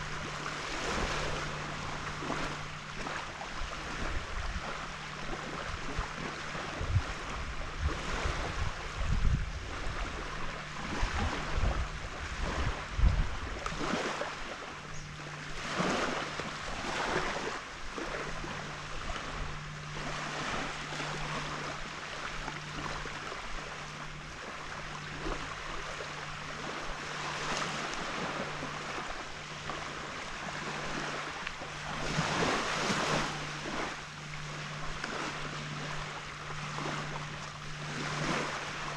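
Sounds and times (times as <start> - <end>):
small waves washing onto beach: 0.0 - 38.9
steady low hum: 0.0 - 38.9
wind rumbling on microphone: 0.0 - 38.9.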